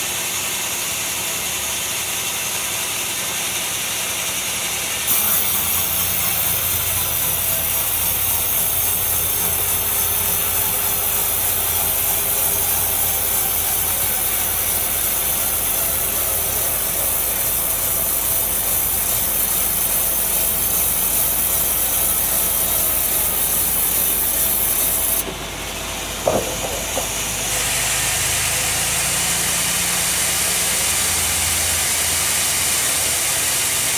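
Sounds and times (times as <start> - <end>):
saw blade cutting log: 5.0 - 25.4, 26.2 - 33.9.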